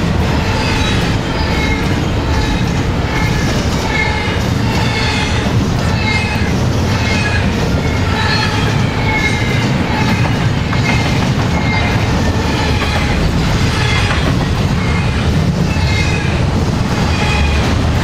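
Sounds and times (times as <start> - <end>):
train wheels rumbling on rail: 0.0 - 18.0
wheel squeals: 0.4 - 17.8.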